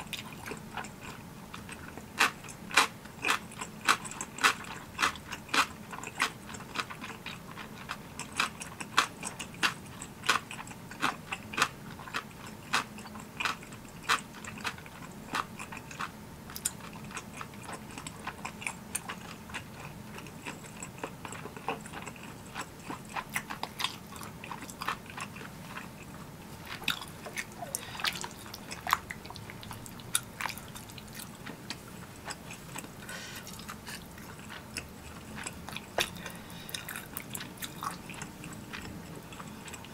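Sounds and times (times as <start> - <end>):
close-miked wet chewing: 0.0 - 39.9.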